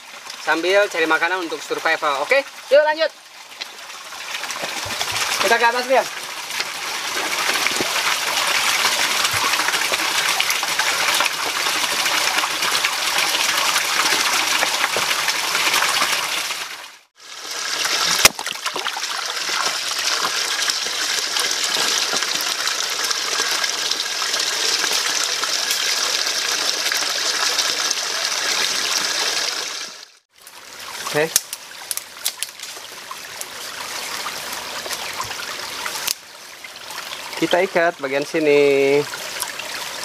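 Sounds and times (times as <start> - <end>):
stream rushing over boulders: 0.0 - 40.0.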